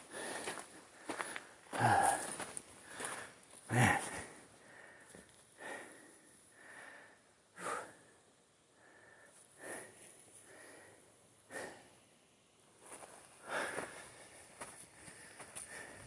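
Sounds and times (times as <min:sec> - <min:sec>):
person breathing hard through nose: 0:00.0 - 0:08.2, 0:08.8 - 0:12.0, 0:13.4 - 0:14.3, 0:15.0 - 0:16.0.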